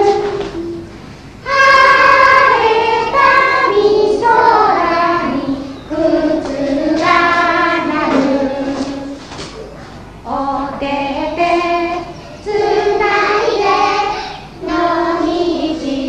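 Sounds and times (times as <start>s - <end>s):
children singing in unison: 0.0s - 9.3s, 10.2s - 16.0s.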